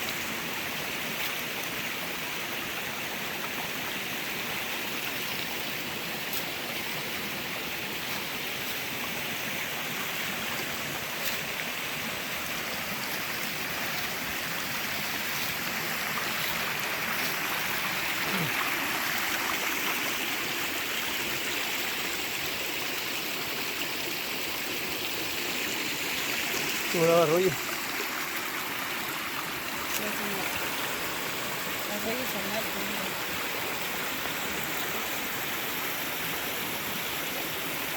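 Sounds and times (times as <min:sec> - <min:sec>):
stream water rushing over rocks: 0:00.0 - 0:37.9.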